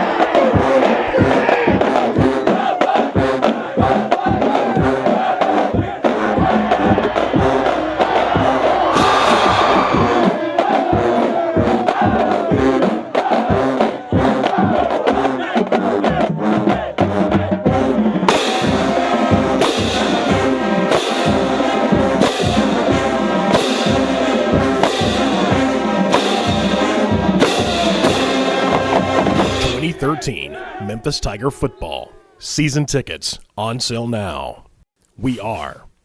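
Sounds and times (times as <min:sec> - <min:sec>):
marching band brass: 0:00.0 - 0:30.3
steady drum beat: 0:00.0 - 0:30.4.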